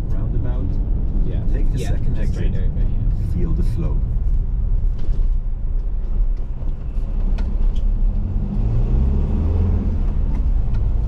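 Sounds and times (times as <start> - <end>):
motorhome engine and road noise: 0.0 - 11.0.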